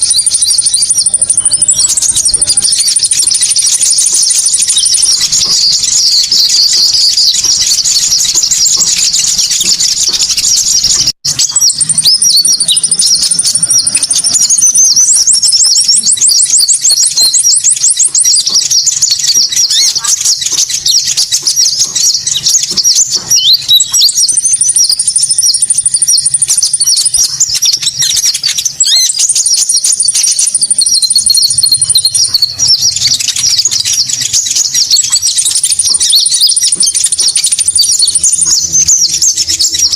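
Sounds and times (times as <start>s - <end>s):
fast even trill: 0.0s - 39.9s
small birds chirping: 0.0s - 39.9s.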